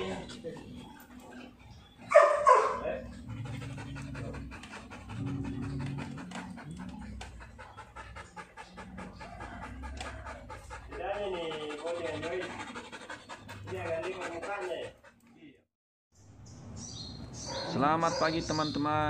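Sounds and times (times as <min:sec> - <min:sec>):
dog panting: 0:00.0 - 0:15.6.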